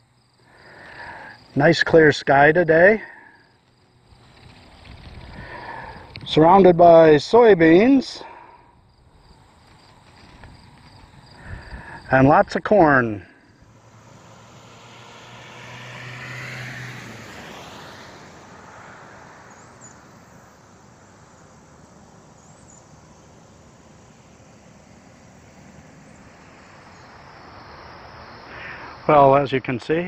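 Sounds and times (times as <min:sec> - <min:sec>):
road and wind noise: 0:00.0 - 0:30.0
car passing: 0:00.2 - 0:06.4, 0:07.8 - 0:30.0.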